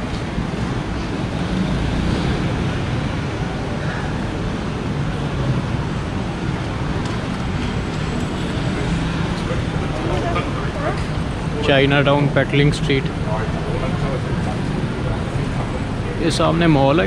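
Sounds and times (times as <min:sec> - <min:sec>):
faint street ambience: 0:00.0 - 0:17.0.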